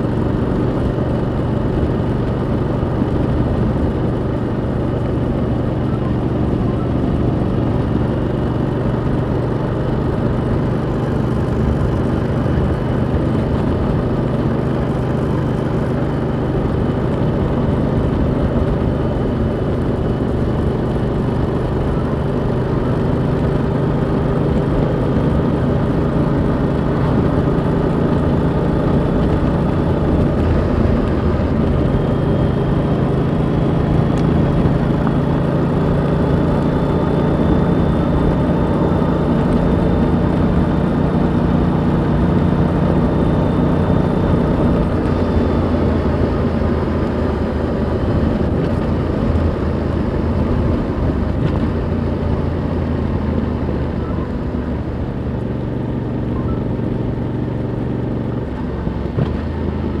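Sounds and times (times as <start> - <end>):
motorcycle engine while riding: 0.0 - 60.0.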